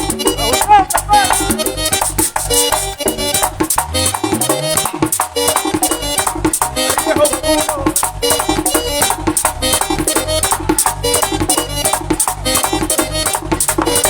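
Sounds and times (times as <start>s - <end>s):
accordion melody: 0.0s - 14.0s
tambora drum beat: 0.0s - 14.0s.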